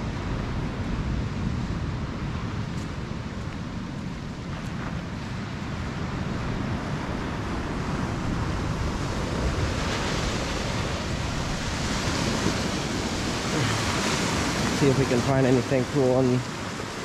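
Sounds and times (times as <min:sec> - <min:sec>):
ocean surf on rocks: 0:00.0 - 0:17.0
wind buffeting microphone: 0:00.0 - 0:17.0.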